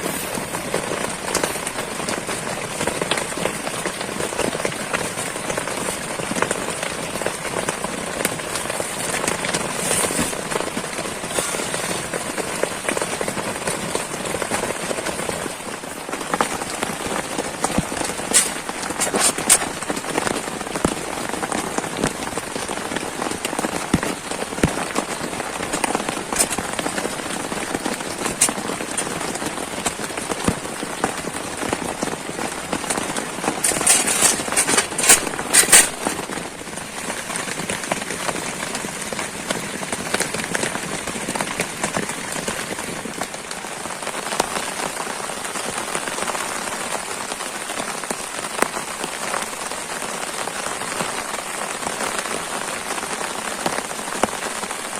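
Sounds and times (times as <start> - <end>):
pouring rain: 0.0 - 54.9.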